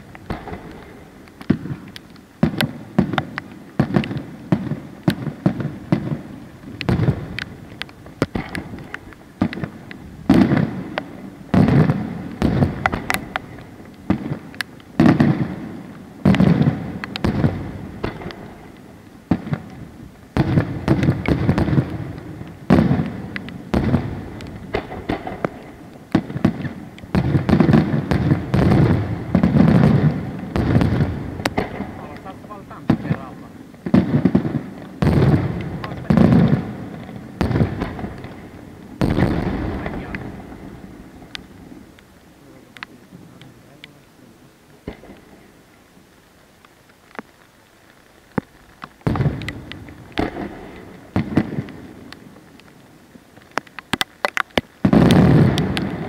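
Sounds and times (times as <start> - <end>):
firework shells bursting: 0.0 - 42.1, 44.8 - 45.6, 48.3 - 52.4.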